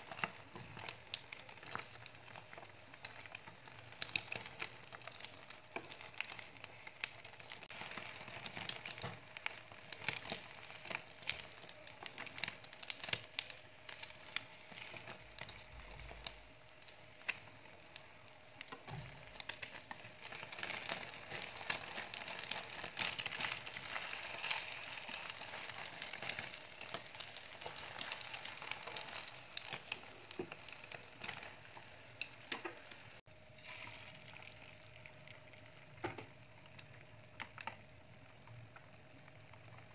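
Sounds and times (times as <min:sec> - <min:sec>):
egg sizzling in hot oil: 0:00.0 - 0:39.9.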